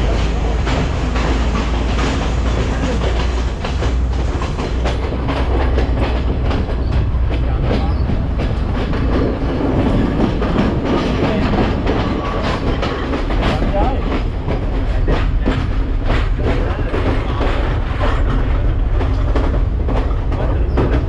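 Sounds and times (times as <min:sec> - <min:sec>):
train running gear rumble: 0:00.0 - 0:21.0
wheels clacking over rail joints: 0:00.0 - 0:21.0.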